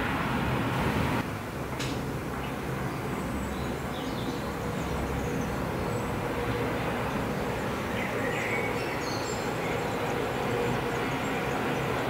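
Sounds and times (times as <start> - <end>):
freight train rumbling: 0.0 - 12.0
birds chirping: 2.3 - 12.0.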